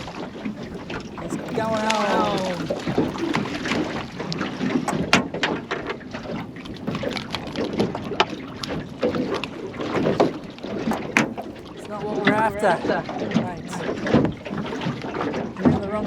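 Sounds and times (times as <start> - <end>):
knocks and clicks on boat: 0.0 - 16.0
wind and water rushing: 0.0 - 16.0.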